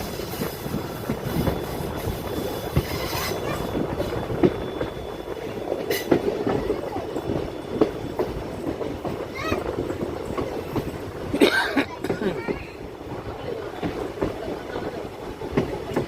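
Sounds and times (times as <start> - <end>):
train wheels clattering: 0.0 - 12.8, 13.5 - 16.0.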